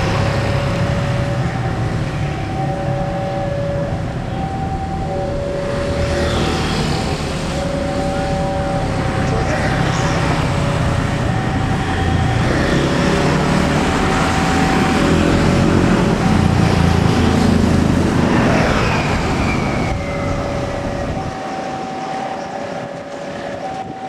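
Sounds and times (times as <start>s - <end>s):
train passing with rumble: 0.0s - 24.0s
two-tone level-crossing alarm: 0.0s - 24.0s.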